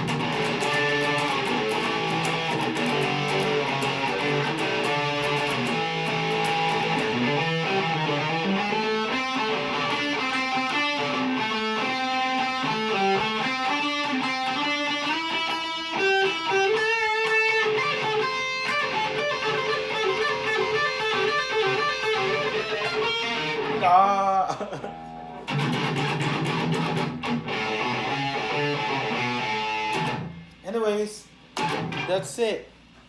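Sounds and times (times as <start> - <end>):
electric guitar melody through amp: 0.0 - 23.9, 24.9 - 30.5, 31.6 - 32.1.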